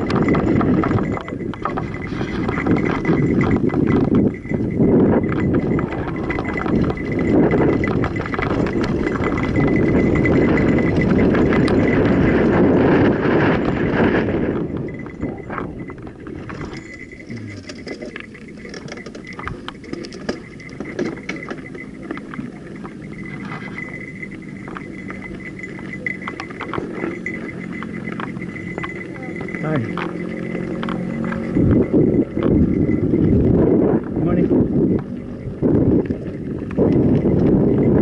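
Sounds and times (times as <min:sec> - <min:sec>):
bike clicks and rattles: 0:00.0 - 0:38.0
bike tyres rolling on dirt: 0:00.0 - 0:38.0
wind rush on microphone: 0:00.0 - 0:38.0.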